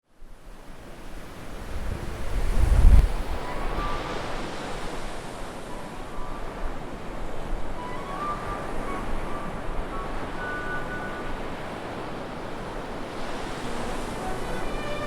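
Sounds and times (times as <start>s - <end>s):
ocean surf on a beach: 0.2s - 15.0s
wind buffeting microphone: 1.3s - 15.0s.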